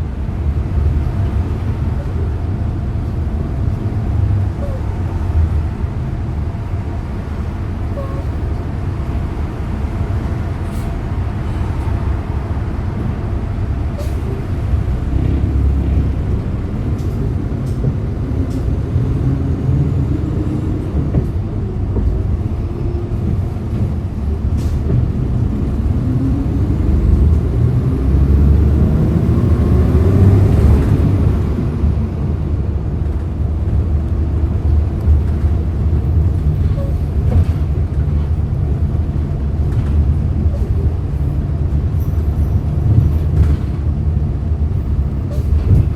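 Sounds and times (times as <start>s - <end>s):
bus engine rumbling: 0.0s - 45.9s.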